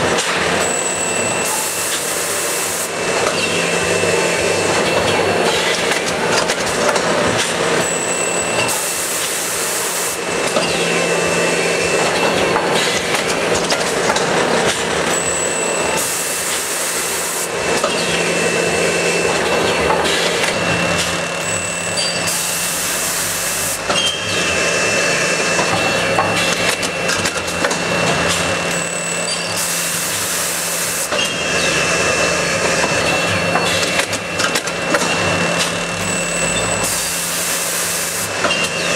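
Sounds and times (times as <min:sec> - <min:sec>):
machinery hum and whine: 0:00.0 - 0:38.9.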